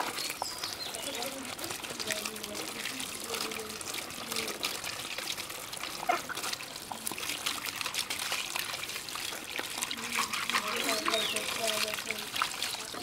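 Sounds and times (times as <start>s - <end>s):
water splashing on plastic mask: 0.0s - 13.0s.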